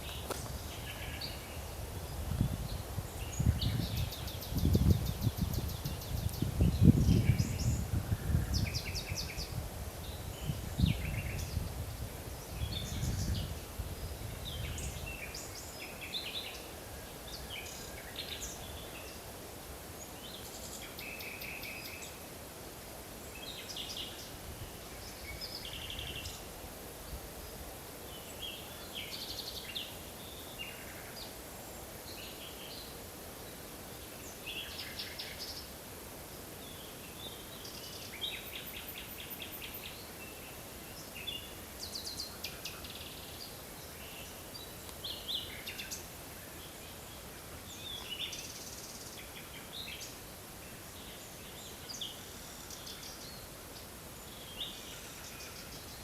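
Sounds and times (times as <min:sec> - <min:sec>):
forest birds chirping and singing: 0:00.0 - 0:56.0
steady background hiss: 0:00.0 - 0:56.0.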